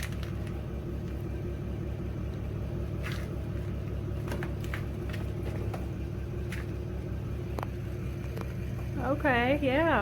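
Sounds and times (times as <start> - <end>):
generator humming: 0.0 - 10.0.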